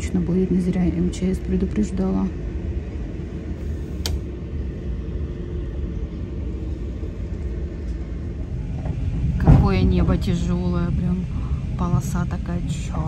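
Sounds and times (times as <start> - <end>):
train carriage rumbling on rails: 0.0 - 13.0.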